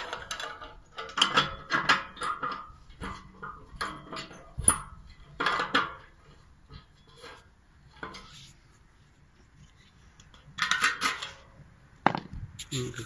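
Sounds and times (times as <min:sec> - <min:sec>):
metal clinks and scraping rattles: 0:00.0 - 0:08.4, 0:09.5 - 0:12.3.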